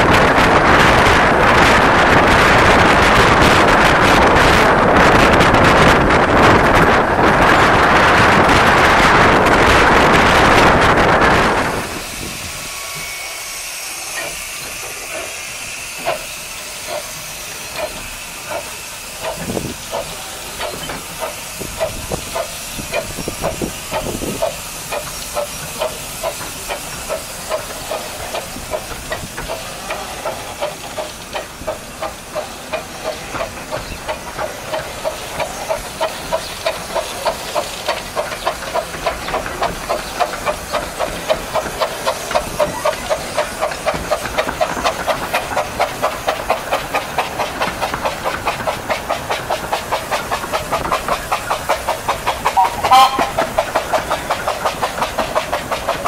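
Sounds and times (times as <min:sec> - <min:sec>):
steam hissing: 0:00.0 - 0:56.0
steam locomotive exhaust beats: 0:00.0 - 0:56.0.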